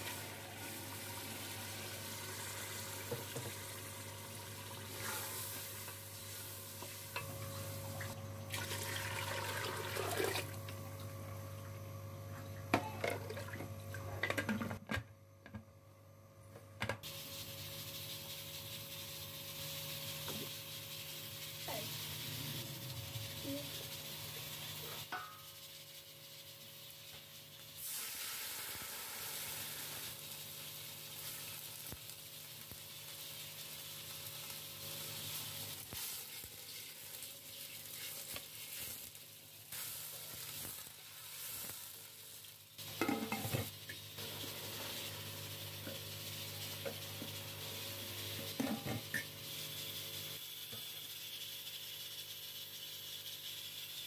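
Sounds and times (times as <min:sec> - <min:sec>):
seeds sizzling in oil: 0:00.0 - 0:07.8, 0:17.0 - 0:54.0.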